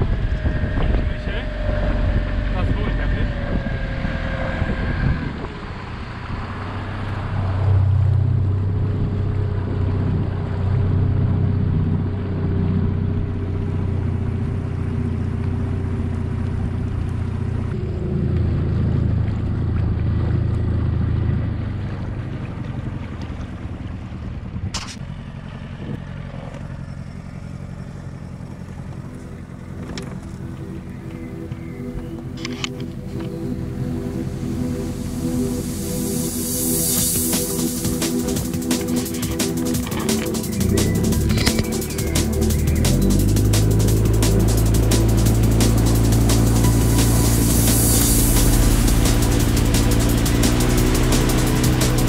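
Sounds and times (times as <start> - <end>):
outboard motor running: 0.0 - 52.0.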